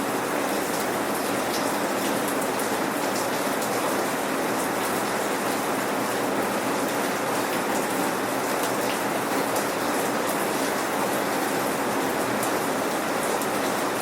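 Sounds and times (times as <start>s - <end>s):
rain pattering: 0.1s - 14.0s.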